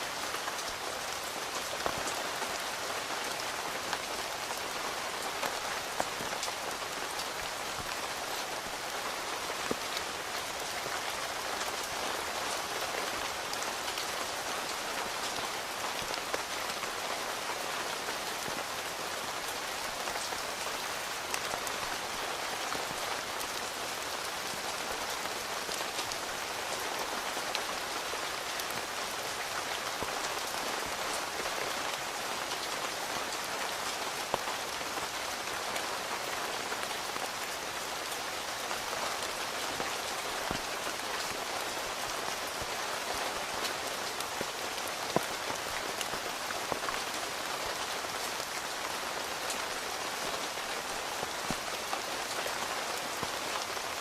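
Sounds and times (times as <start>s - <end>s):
rain on a tent: 0.0s - 54.0s.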